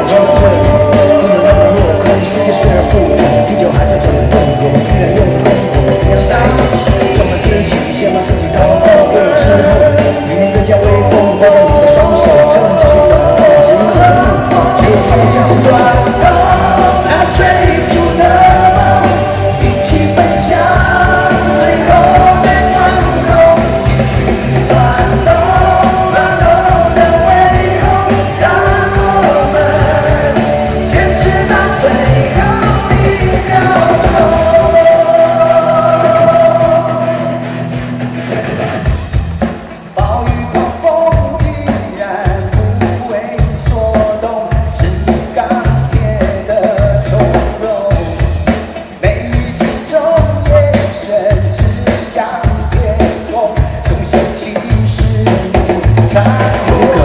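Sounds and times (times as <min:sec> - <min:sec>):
man singing rock song: 0:00.0 - 0:57.0
rock band playing: 0:00.0 - 0:57.0.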